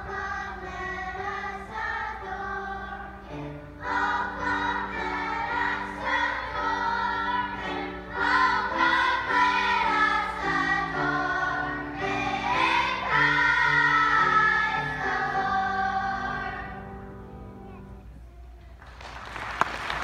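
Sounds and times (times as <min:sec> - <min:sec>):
children's choir singing: 0:00.0 - 0:17.4.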